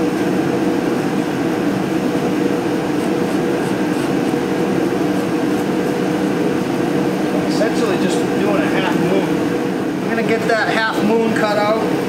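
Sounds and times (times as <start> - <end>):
heater droning: 0.0 - 12.0.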